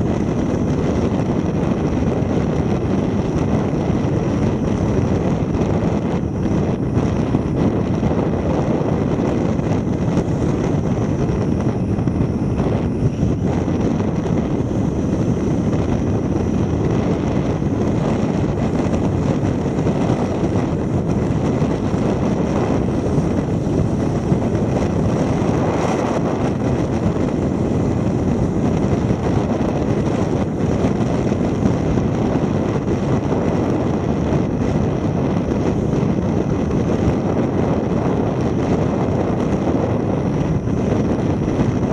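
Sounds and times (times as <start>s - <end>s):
wind rushing: 0.0s - 41.9s.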